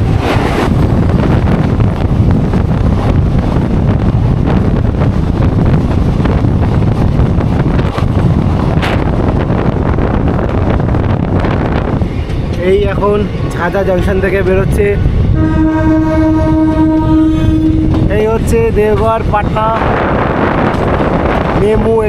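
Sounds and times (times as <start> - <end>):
train rumbling: 0.0 - 22.0
wind rushing over microphone: 0.0 - 22.0.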